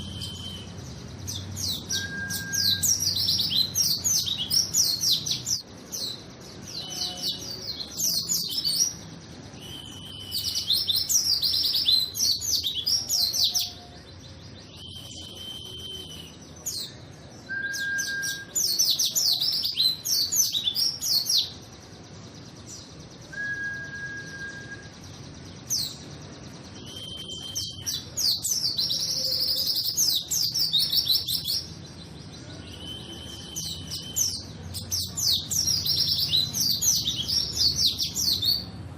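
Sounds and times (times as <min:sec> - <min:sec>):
bird singing twittering phrases: 0:00.0 - 0:38.9.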